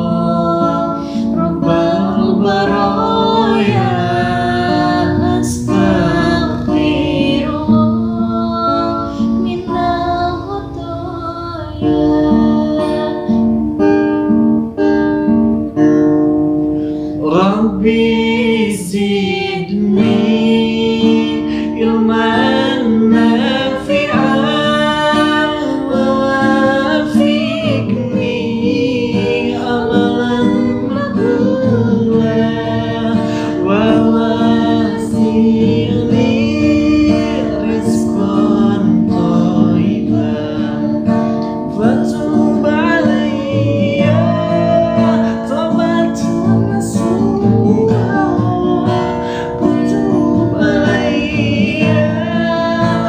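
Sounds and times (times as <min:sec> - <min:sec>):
man and woman singing: 0:00.0 - 0:13.6, 0:17.0 - 0:53.0
acoustic guitar: 0:00.0 - 0:53.0.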